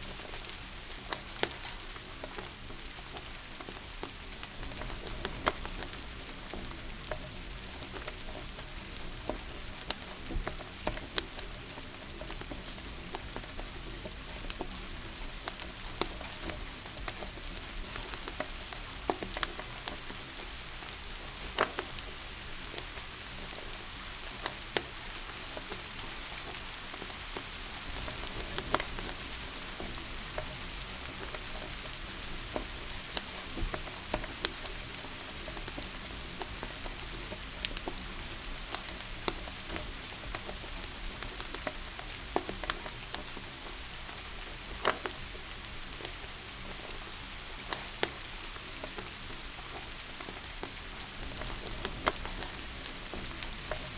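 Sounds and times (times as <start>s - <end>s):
steady rain: 0.0s - 53.9s
wood fire crackling: 0.0s - 53.9s.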